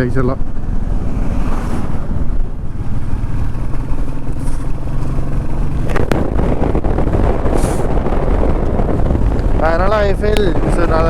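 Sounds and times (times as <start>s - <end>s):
motorcycle engine rumble: 0.0s - 11.0s
wind rumble: 0.0s - 11.0s.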